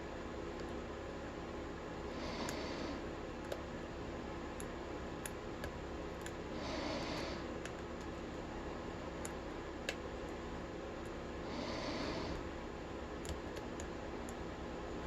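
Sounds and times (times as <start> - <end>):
background hiss and hum: 0.0 - 15.0.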